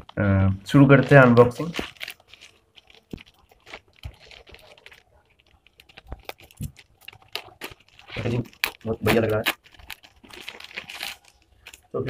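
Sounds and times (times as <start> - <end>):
plastic mailer crinkling: 0.0 - 12.0
scissors cutting plastic: 0.0 - 12.0.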